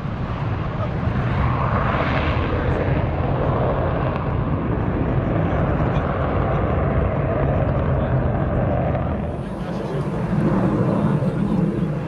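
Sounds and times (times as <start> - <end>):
jet engine deep rumble: 0.0 - 12.0.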